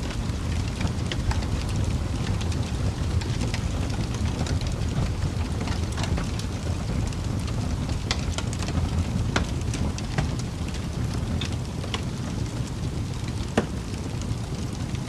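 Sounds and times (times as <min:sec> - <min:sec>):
low rumble of burning fire: 0:00.0 - 0:15.0
wood fire popping and snapping: 0:00.0 - 0:15.0.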